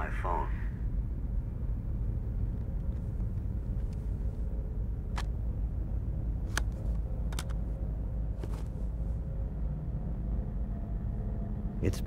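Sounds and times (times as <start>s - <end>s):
low rumbling ambient drone: 0.0s - 12.0s.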